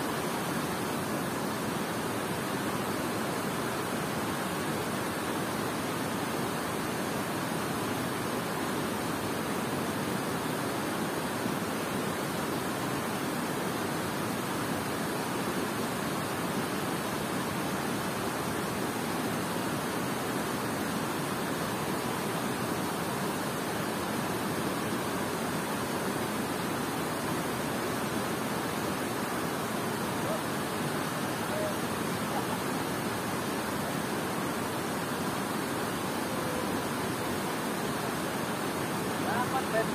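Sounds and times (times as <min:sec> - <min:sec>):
water rushing over spillway: 0:00.0 - 0:39.9.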